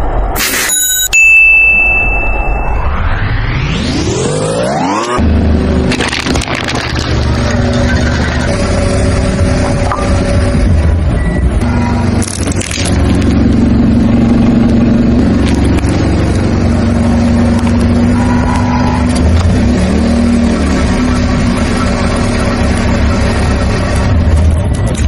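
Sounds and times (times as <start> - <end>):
car engine running: 4.0 - 25.0.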